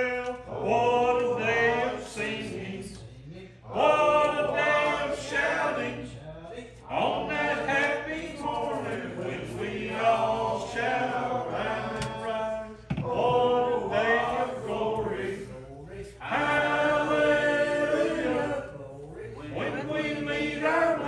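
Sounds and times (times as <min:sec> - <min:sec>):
congregation singing a hymn: 0:00.0 - 0:06.2, 0:06.8 - 0:21.0.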